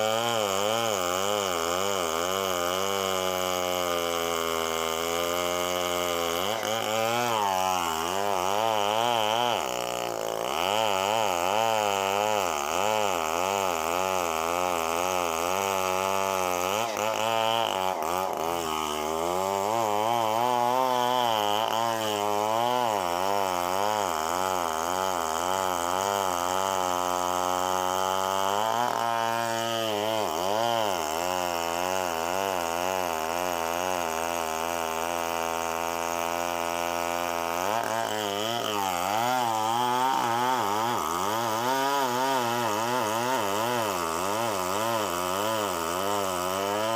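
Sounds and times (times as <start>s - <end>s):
chainsaw engine running: 0.0s - 46.9s.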